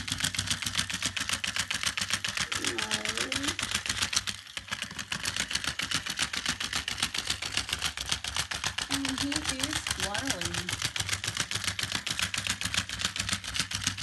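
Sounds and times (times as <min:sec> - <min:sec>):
toy motor clicking rapidly: 0:00.0 - 0:14.0.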